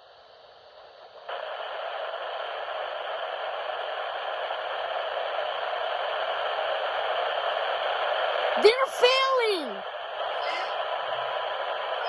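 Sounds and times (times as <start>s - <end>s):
radio static hiss: 0.1s - 12.0s.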